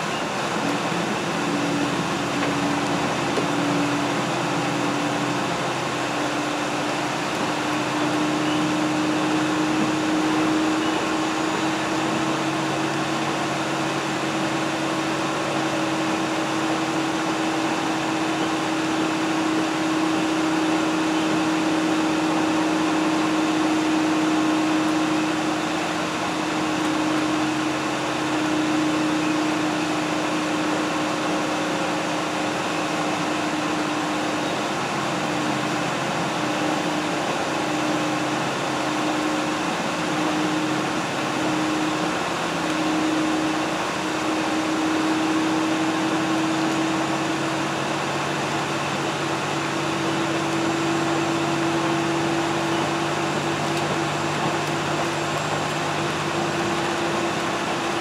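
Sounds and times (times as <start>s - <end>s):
steady train whine: 0.0s - 58.0s
train rumbling: 0.0s - 58.0s.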